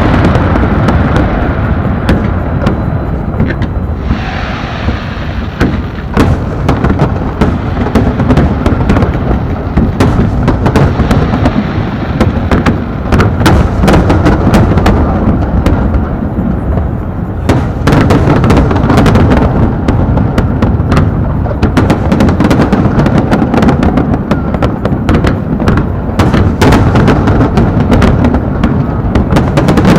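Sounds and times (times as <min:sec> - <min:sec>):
firework shells cracking: 0:00.0 - 0:29.9
low rolling rumble of booms: 0:00.0 - 0:29.9.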